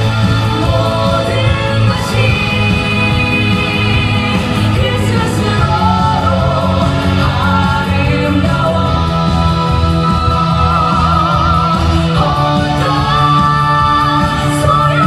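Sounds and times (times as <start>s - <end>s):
stage music with singing: 0.0s - 15.0s.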